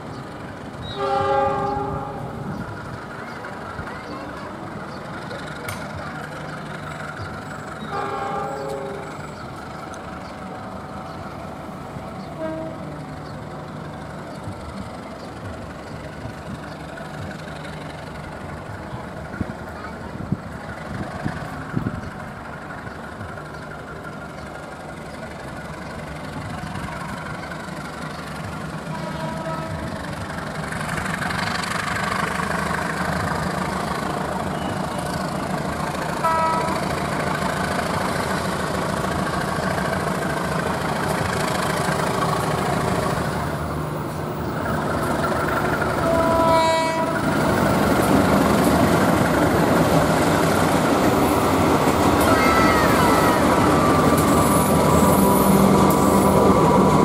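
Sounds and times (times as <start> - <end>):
locomotive engine humming: 0.0 - 57.0
wheels rumbling on rails: 0.0 - 57.0.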